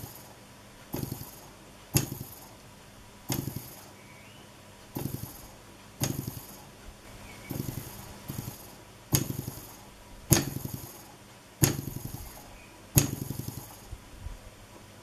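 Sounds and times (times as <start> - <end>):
engine piston knocks: 0.0 - 4.0, 4.9 - 6.8, 7.4 - 14.0
piston rattle: 0.0 - 4.0, 4.9 - 14.0.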